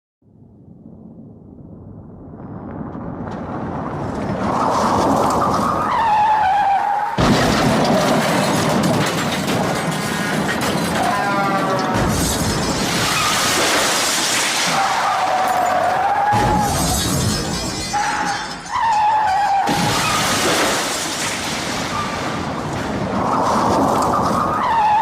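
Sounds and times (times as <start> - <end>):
crashing and shattering glass: 4.2 - 25.0.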